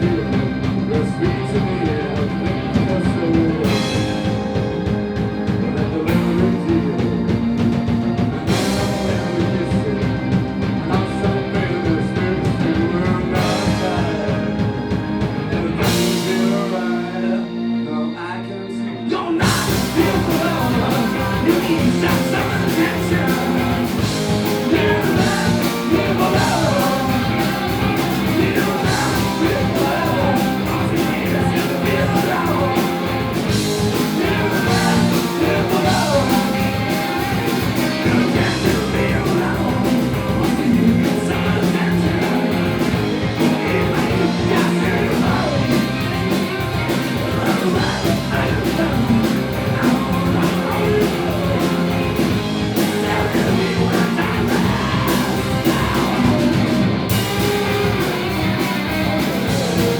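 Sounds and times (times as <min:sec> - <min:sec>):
lead vocal singing: 0:00.0 - 0:59.9
live rock band playing: 0:00.0 - 0:59.9.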